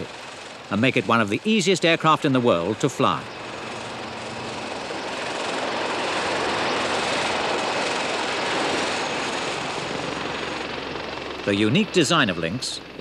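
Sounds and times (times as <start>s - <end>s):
helicopter rotor and turbine noise: 0.0s - 13.0s.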